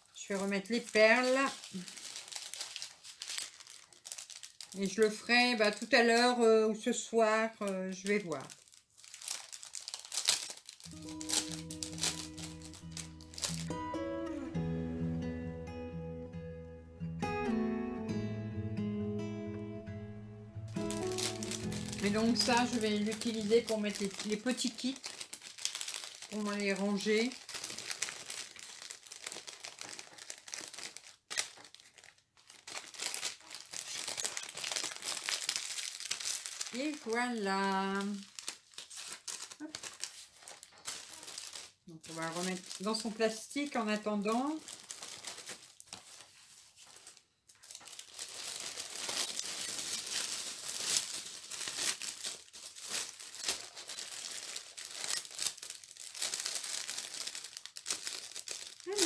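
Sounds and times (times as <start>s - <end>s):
plastic packaging crinkling: 0.0s - 13.9s, 20.7s - 59.0s.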